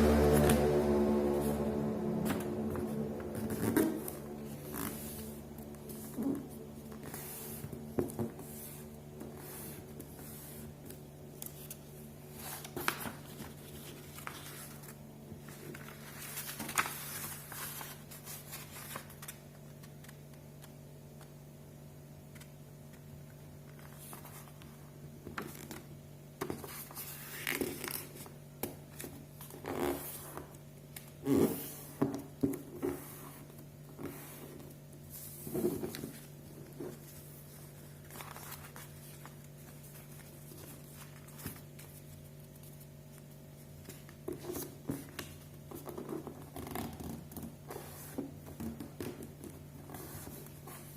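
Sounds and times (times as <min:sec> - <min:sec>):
steady low hum: 0:00.0 - 0:50.9
paper rustling and creasing: 0:01.4 - 0:21.3, 0:22.3 - 0:50.9.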